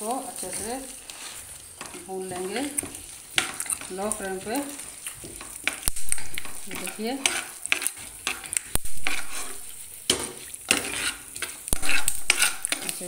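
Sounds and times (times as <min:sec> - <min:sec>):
spoon stirring seeds in pan: 0:00.0 - 0:13.0.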